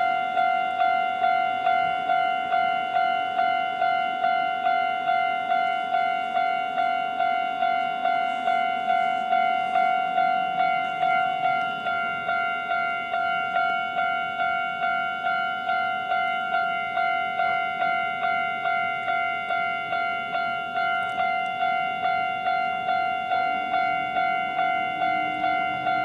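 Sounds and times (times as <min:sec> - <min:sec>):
level crossing bell alarm ringing: 0:00.0 - 0:26.0.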